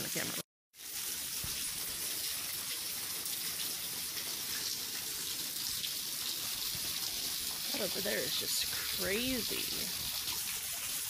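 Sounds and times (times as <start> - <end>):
steady rain falling: 0.8 - 11.0.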